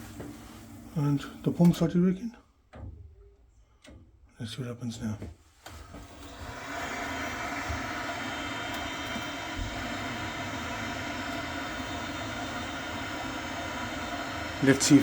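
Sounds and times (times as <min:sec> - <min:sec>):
gas boiler rushing hum: 0:00.0 - 0:03.1, 0:05.5 - 0:15.0.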